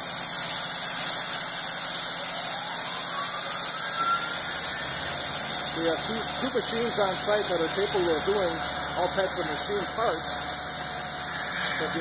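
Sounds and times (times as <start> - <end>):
machine whine: 0.0 - 12.0
milling machine hissing and humming: 0.0 - 12.0.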